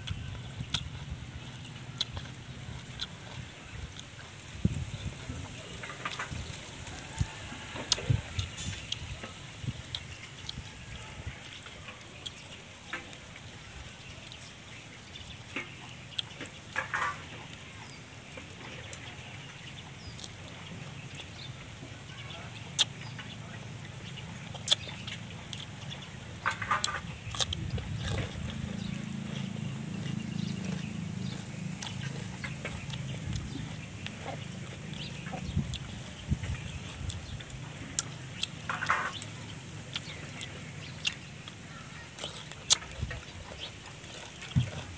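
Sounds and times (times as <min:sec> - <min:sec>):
chewing with mouth clicks: 0:00.0 - 0:44.9.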